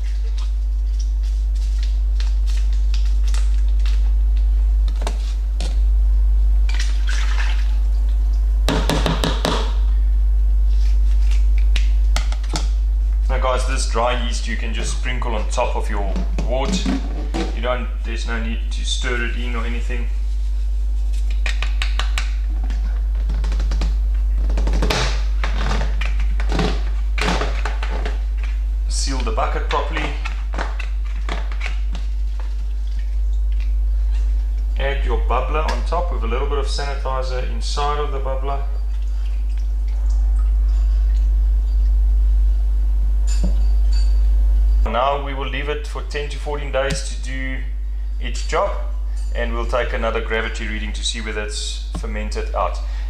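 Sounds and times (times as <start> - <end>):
loud steady low hum: 0.0 - 53.0.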